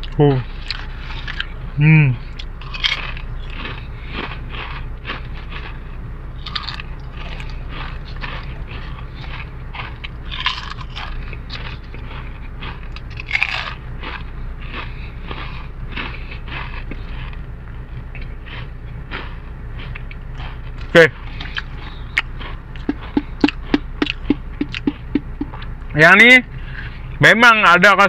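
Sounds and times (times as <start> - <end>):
crisps crunched and chewed: 0.0 - 1.5, 2.3 - 17.4, 18.0 - 25.7.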